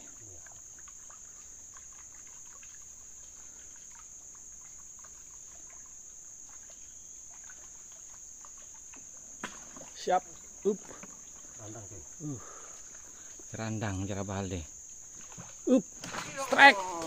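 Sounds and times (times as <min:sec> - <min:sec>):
insect chorus drone: 0:00.0 - 0:17.0
water trickles and drips: 0:00.0 - 0:17.0.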